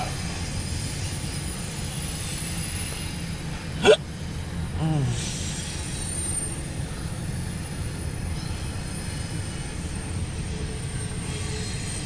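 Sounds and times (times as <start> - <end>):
freight train rolling on rails: 0.0 - 12.0.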